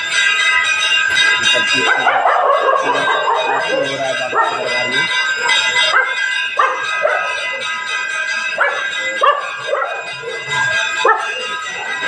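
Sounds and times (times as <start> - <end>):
temple bells ringing: 0.0 - 12.0.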